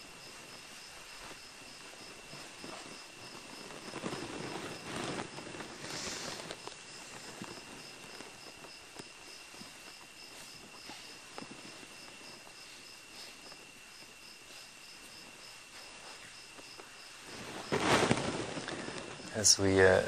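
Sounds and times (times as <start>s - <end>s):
cricket chirping: 0.0s - 20.0s
faint hiss: 0.0s - 20.0s.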